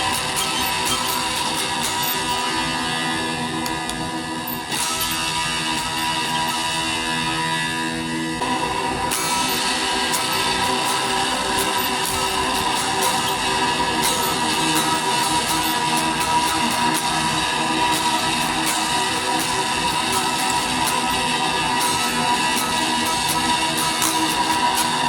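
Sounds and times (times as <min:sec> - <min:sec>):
electric guitar sustained tone: 0:00.0 - 0:25.0.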